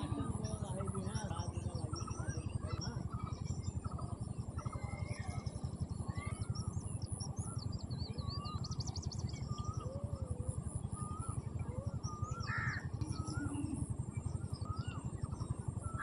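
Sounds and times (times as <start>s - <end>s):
birds chirping and trilling: 0.0s - 16.0s
steady low rumble: 0.0s - 16.0s.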